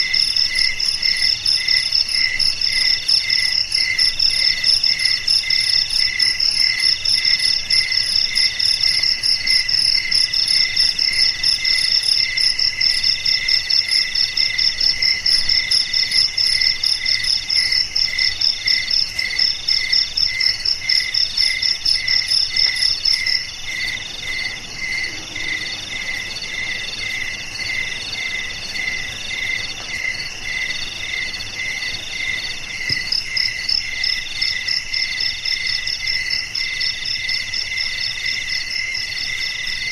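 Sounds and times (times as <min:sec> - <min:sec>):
crickets pulsing trill: 0:00.0 - 0:39.9
low repeating cricket chirp: 0:00.0 - 0:39.9.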